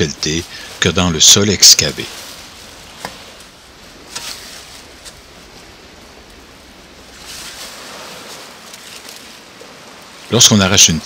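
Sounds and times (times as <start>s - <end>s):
steady rushing background noise: 0.0s - 11.0s.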